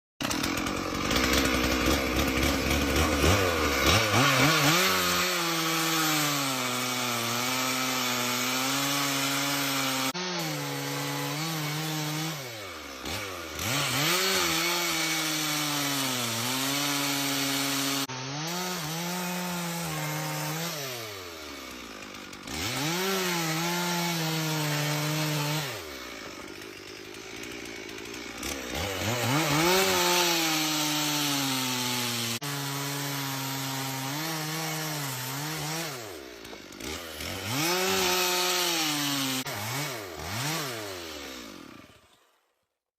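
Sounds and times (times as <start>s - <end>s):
chainsaw cutting wood: 0.2s - 42.7s.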